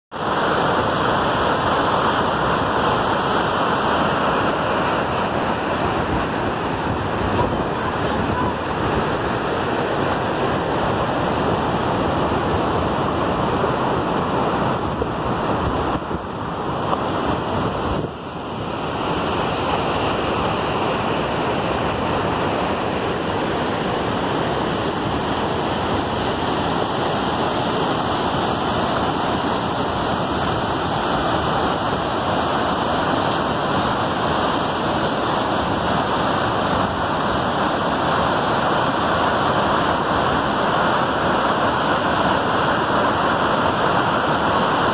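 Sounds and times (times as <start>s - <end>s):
waterfall rushing: 0.1s - 44.9s.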